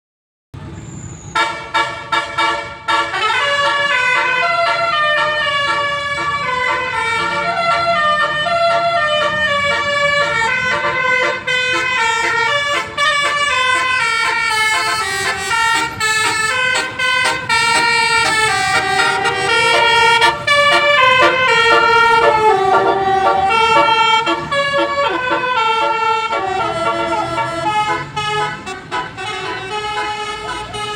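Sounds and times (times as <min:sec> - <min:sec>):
musical bus air horn melody: 0:01.4 - 0:30.9.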